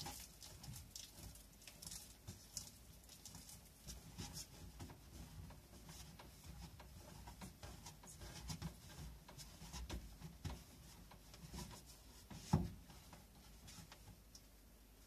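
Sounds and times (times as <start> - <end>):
hands rubbing bread dough: 0.0 - 14.3.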